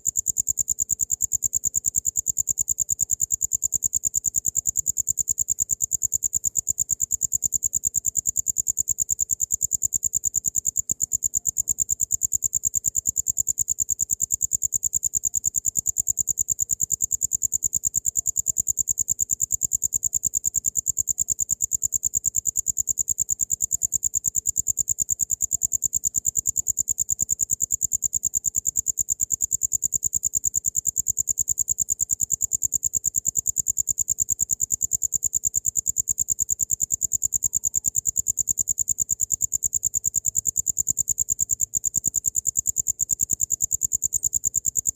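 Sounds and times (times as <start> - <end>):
cricket chirping: 0.0 - 44.9.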